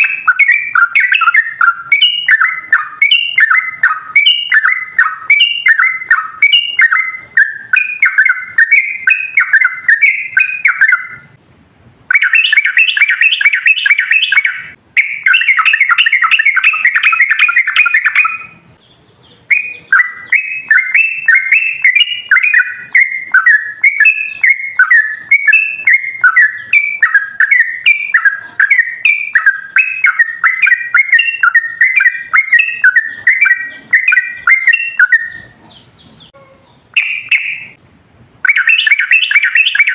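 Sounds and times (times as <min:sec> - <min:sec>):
bulbul singing chattering notes: 0:00.0 - 0:11.4, 0:12.1 - 0:37.8.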